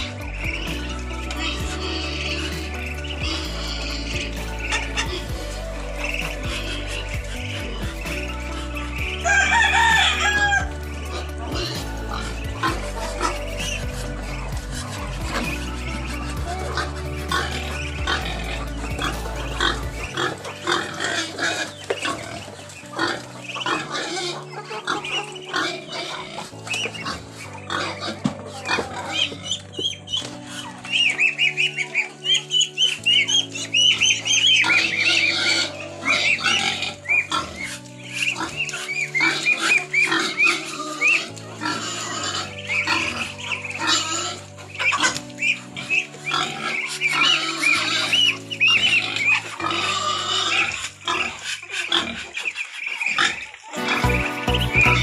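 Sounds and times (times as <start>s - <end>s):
background music: 0.0s - 55.0s
ducks and chickens calling: 0.0s - 55.0s.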